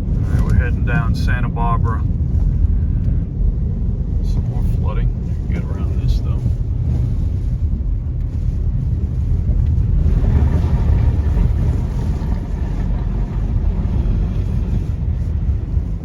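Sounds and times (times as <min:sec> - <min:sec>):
car engine low rumble: 0:00.0 - 0:16.0
wind buffeting: 0:00.0 - 0:16.0.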